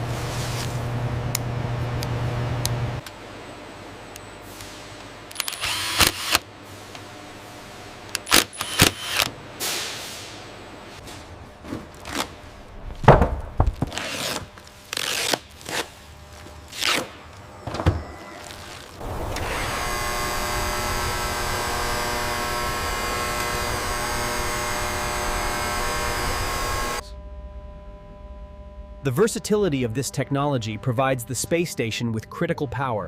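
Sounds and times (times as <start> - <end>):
electric machine hum: 0.0 - 9.6, 10.5 - 30.1.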